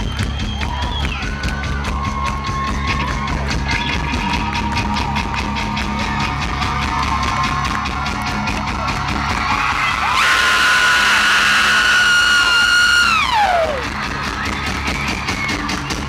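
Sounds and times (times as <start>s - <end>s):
bass guitar: 0.0s - 16.0s
drum kit steady beat: 0.0s - 16.0s.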